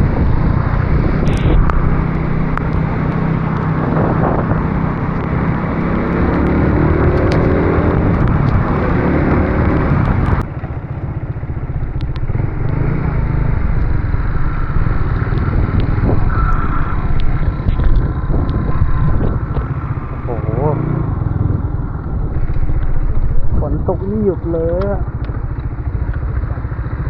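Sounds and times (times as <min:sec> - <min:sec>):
heavy wind buffeting: 0:00.0 - 0:27.0
motorcycle engine: 0:00.0 - 0:27.0.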